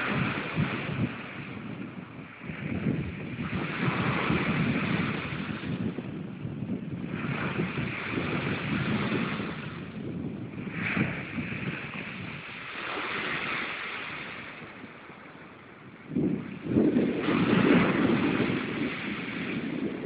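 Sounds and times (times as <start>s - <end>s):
waves breaking on shingle beach: 0.0s - 6.2s, 6.8s - 20.0s
wind buffeting microphone: 0.0s - 20.0s.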